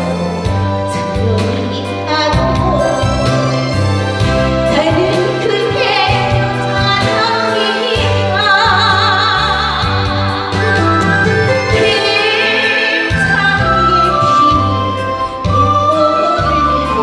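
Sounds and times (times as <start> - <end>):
karaoke backing track: 0.0 - 17.0
woman singing with vibrato: 0.9 - 3.7, 4.7 - 17.0.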